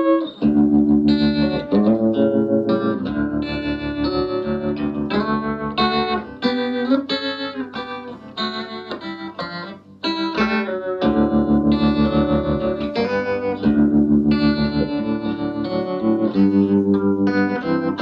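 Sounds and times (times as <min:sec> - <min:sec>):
electric guitar with tremolo: 0:00.0 - 0:18.0.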